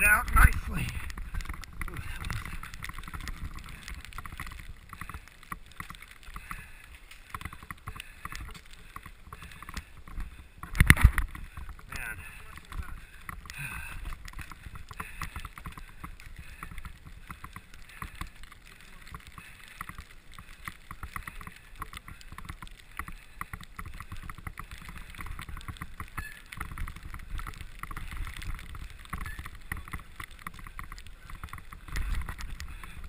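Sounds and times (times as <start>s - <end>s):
bicycle rattling and clicking: 0.0s - 33.0s
tyres rumbling on snow: 0.0s - 33.0s
wind: 0.0s - 33.0s.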